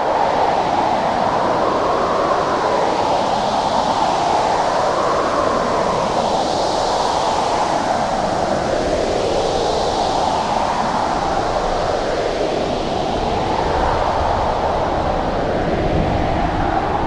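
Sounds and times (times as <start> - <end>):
howling blizzard wind: 0.0 - 17.0.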